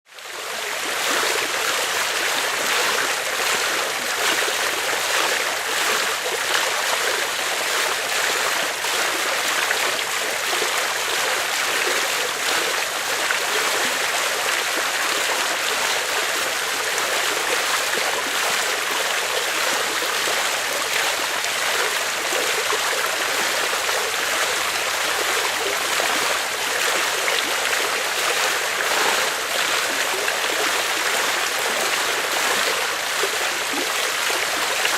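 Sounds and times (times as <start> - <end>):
water fountain splashing: 0.3 - 34.9.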